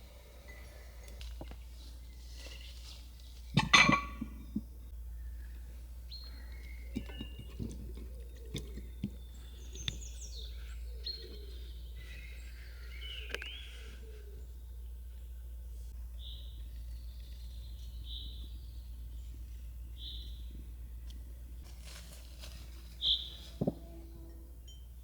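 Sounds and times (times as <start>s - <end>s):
birds chirping: 0.0s - 21.6s, 22.3s - 25.0s.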